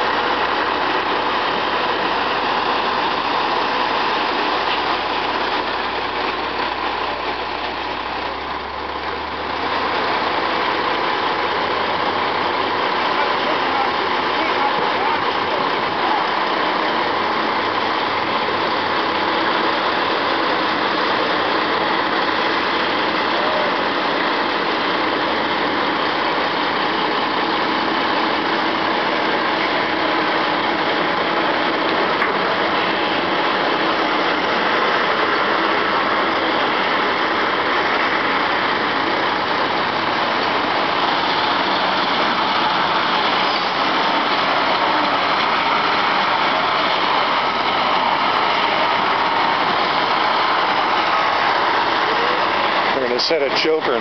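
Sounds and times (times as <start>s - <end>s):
heavy truck engines running: 0.0s - 54.0s.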